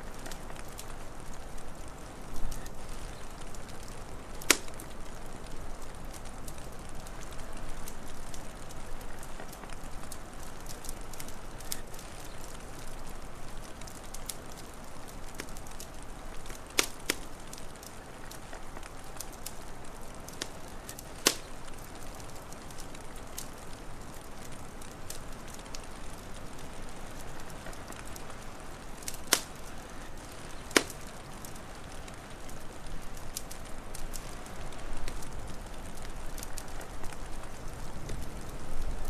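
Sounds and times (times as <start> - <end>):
wood fire crackling: 0.0 - 39.0
loud fire pops: 0.2 - 14.4, 15.2 - 39.0.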